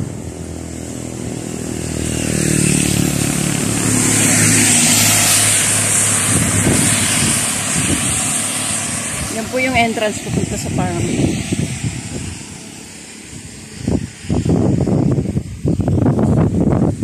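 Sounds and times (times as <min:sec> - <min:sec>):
tyres hissing on wet road: 0:00.0 - 0:15.8
truck engine hum: 0:00.0 - 0:16.8.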